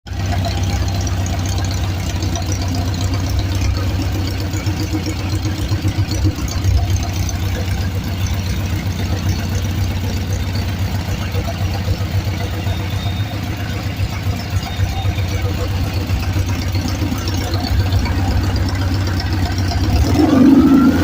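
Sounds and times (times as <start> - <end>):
car engine running: 0.1 - 21.0.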